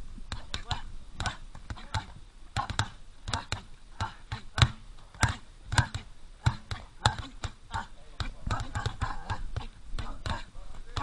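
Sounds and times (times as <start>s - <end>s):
gloved fists thudding on tyre: 0.3s - 11.0s.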